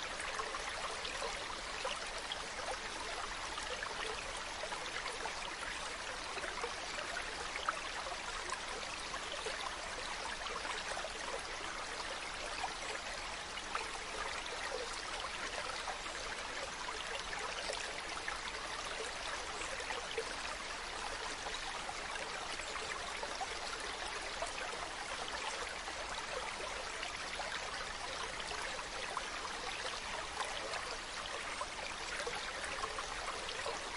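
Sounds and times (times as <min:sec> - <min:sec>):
stream running over rocks: 0:00.0 - 0:33.9.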